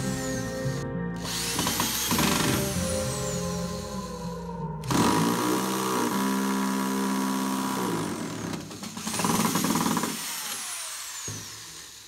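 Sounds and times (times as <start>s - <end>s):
electric drill driving screw: 0.0s - 4.1s, 4.8s - 12.0s.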